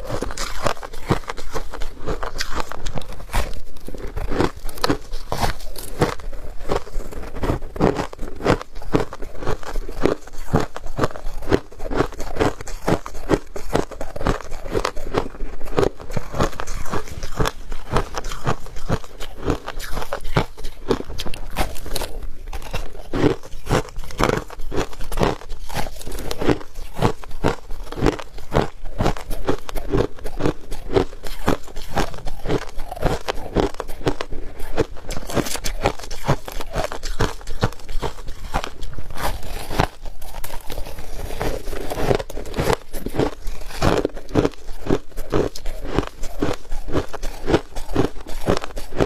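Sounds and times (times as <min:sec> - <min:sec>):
person chewing ice: 0:00.0 - 0:49.0.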